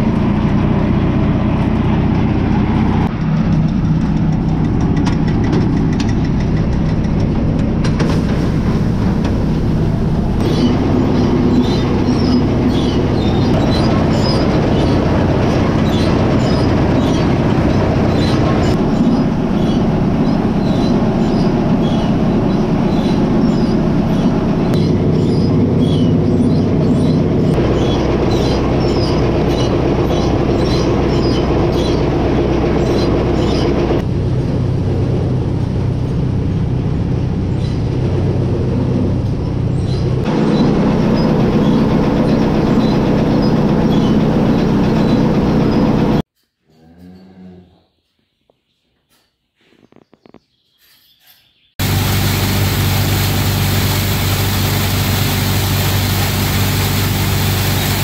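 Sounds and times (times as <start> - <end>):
machinery engine hum: 0.0 - 46.3, 51.8 - 58.0.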